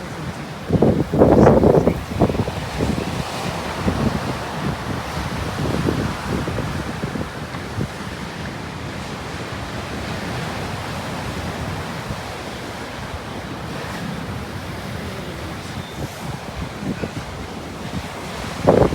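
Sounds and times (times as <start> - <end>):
ocean surf on beach: 0.0 - 18.9
wind buffeting microphone: 0.0 - 18.9.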